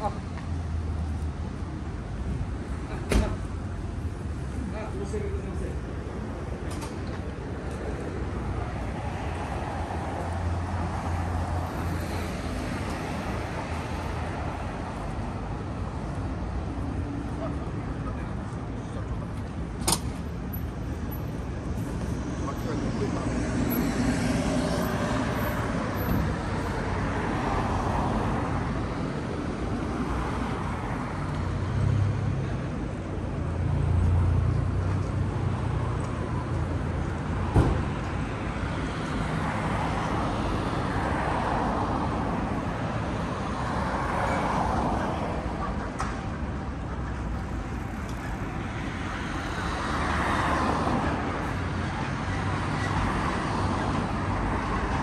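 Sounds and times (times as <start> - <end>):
city traffic passing: 0.0 - 55.0.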